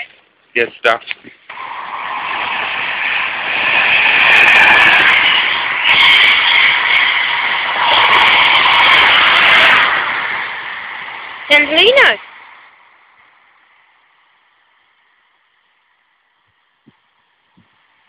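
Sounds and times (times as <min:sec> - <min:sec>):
electric train passing: 0:01.5 - 0:16.4.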